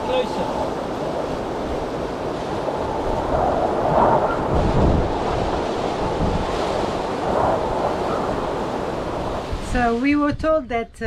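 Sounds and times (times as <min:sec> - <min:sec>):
gusty wind on microphone: 0:00.0 - 0:11.0.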